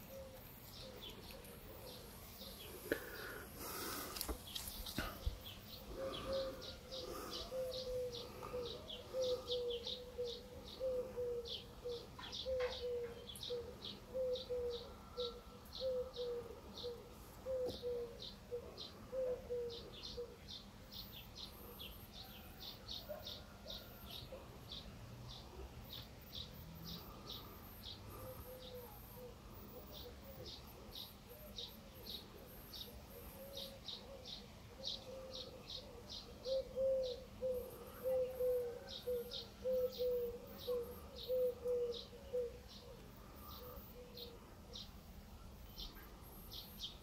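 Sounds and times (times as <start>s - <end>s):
lower bird call: 0.0s - 20.7s, 25.9s - 47.0s.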